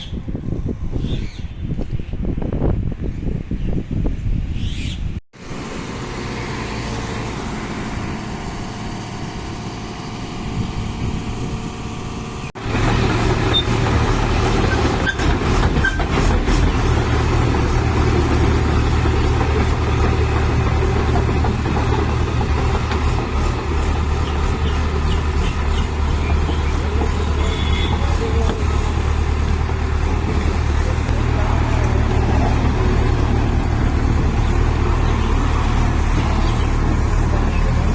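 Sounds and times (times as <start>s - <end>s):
heavy machine engine running: 5.4s - 37.9s.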